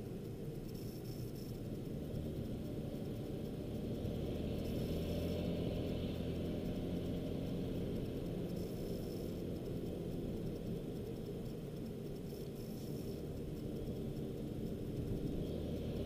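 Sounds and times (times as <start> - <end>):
car engine drone and road noise: 0.0 - 16.0.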